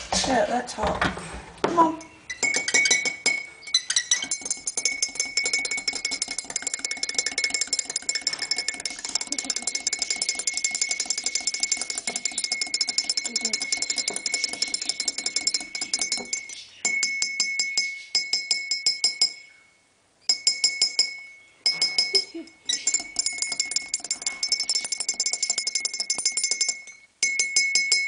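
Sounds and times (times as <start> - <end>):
cup ringing tone: 2.0 - 28.0
rapid clinking on coffee cup: 2.3 - 19.5, 20.3 - 28.0.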